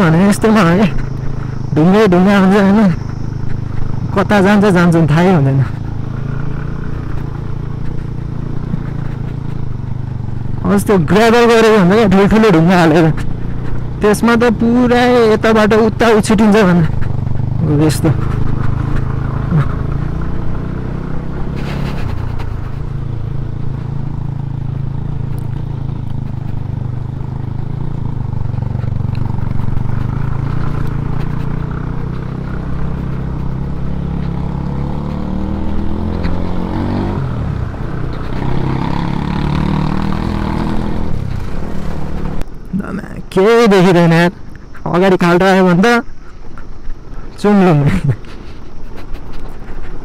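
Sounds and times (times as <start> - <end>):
tyres crunching over gravel: 0.0 - 50.0
scooter engine running: 0.1 - 42.9.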